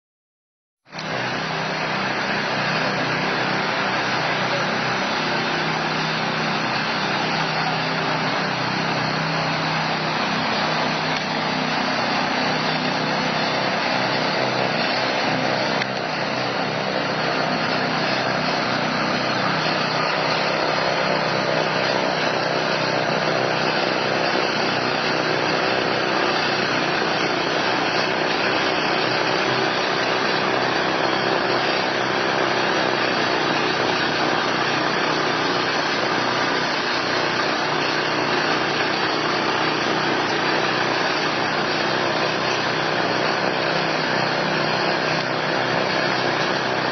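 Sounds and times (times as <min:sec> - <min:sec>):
snow blower engine droning: 0:00.8 - 0:46.9.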